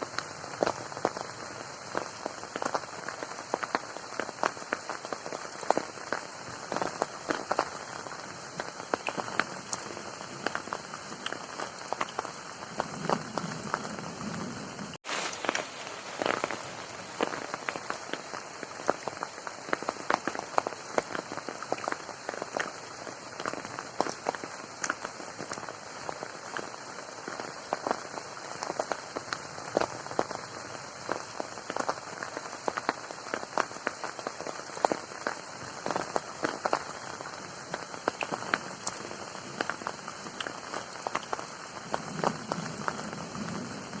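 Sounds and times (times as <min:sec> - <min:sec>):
rain hissing on a pond: 0:00.0 - 0:44.0
raindrops striking close by: 0:00.0 - 0:44.0.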